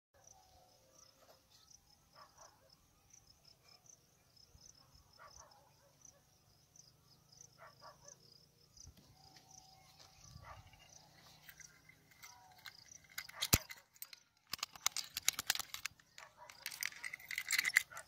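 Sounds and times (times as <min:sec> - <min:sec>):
faint crickets chirping: 0:00.2 - 0:18.0.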